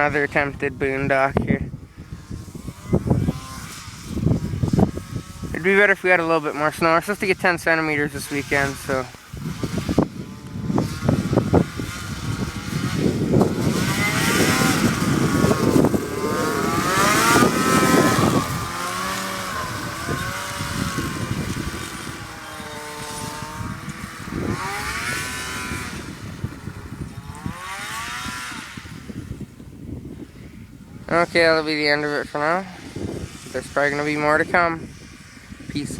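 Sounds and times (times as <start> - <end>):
snowmobile engine revving: 0.0 - 30.3, 30.9 - 35.9.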